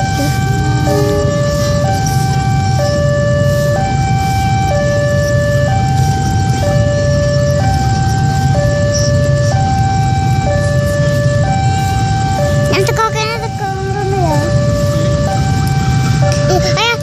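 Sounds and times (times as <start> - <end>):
approaching train rumble: 0.0 - 17.0
two-tone level crossing alarm: 0.0 - 17.0.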